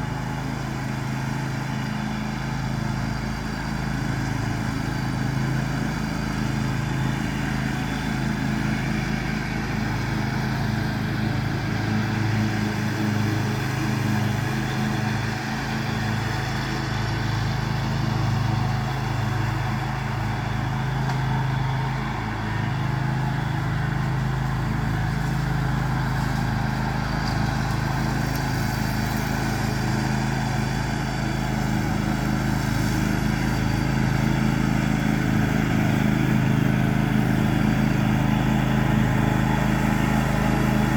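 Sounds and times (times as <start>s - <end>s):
lawn tractor engine running: 0.0s - 40.9s.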